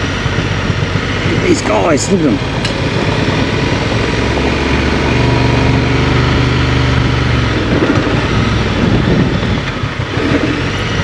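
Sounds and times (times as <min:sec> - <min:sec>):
motorcycle engine running: 0:00.0 - 0:11.0
tyre and wind noise: 0:00.0 - 0:11.0.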